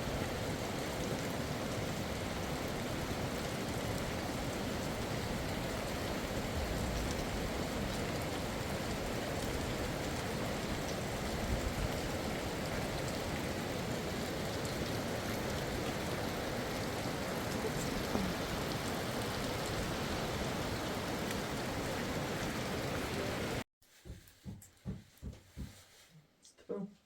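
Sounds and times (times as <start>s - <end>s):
steady rain: 0.0s - 23.6s.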